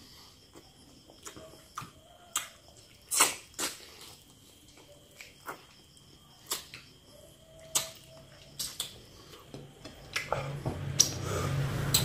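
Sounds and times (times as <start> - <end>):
person chewing food: 0.0 - 7.0, 7.6 - 11.2.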